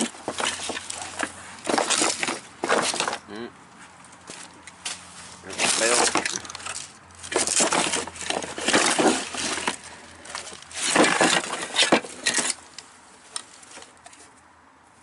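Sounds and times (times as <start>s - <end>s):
metal parts clinking: 0.0s - 3.2s, 4.3s - 13.8s.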